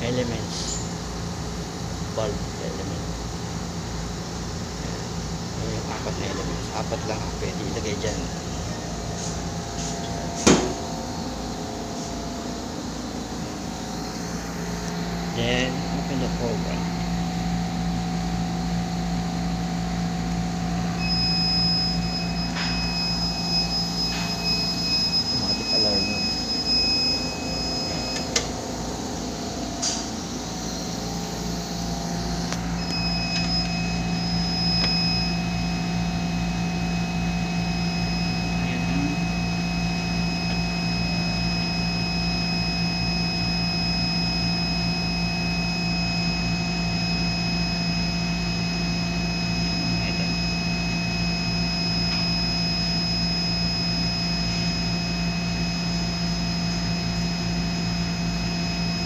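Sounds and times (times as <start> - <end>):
lab equipment humming: 0.0 - 59.0
thin high whine: 0.0 - 59.0.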